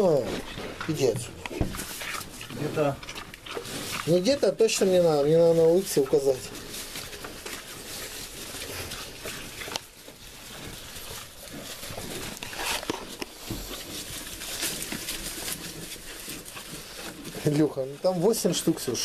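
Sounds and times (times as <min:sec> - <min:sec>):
piglet sounds: 0:00.0 - 0:19.0
rustling straw: 0:03.4 - 0:19.0.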